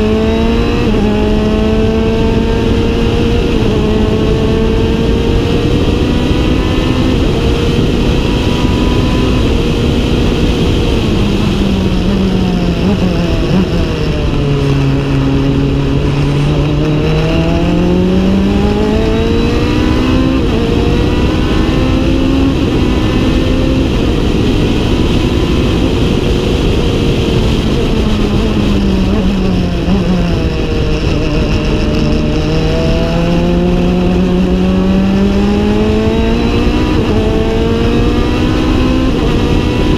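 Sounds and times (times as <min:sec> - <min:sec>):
race car engine: 0:00.0 - 0:39.9
road and wind noise: 0:00.0 - 0:39.9.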